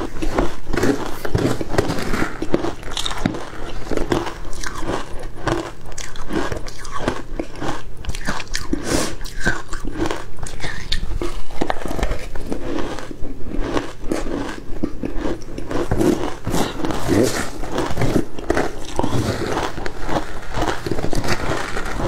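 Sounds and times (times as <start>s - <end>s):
ice crunching while chewed: 0.0s - 22.0s.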